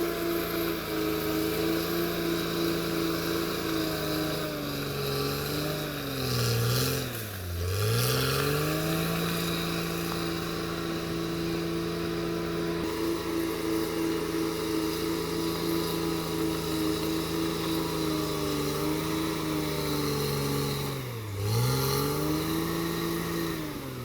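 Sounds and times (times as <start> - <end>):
bulldozer diesel engine running: 0.0 - 6.2, 7.0 - 24.0.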